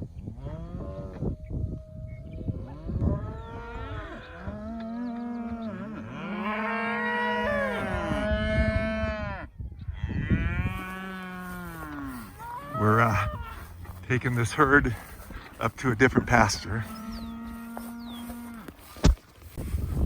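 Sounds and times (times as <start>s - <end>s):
cattle mooing: 2.0s - 18.7s.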